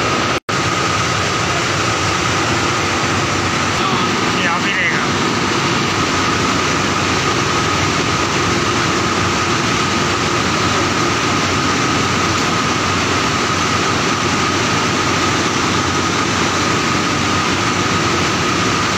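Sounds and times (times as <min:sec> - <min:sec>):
textile machine running with whine: 0:00.0 - 0:18.9.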